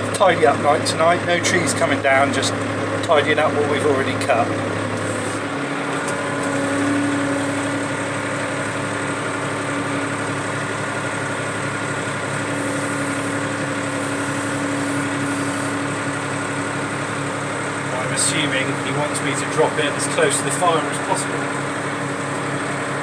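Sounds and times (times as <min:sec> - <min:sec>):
tractor engine humming: 0:00.0 - 0:23.0.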